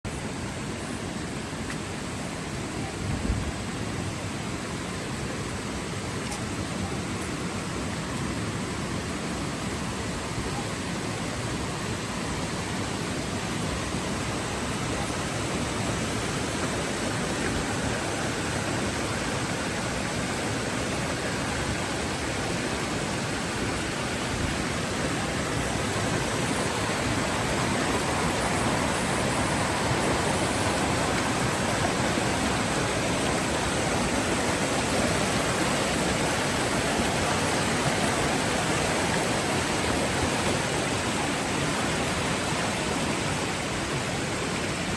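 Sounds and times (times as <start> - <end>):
rain hissing: 0.1 - 44.9.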